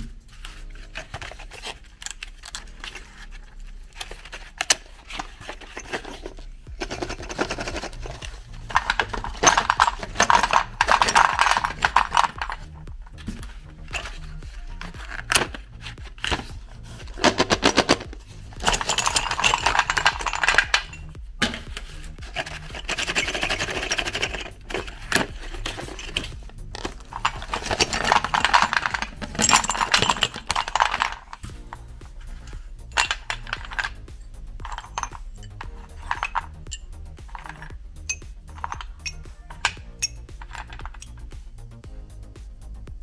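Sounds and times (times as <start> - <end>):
background music: 0.0 - 43.0.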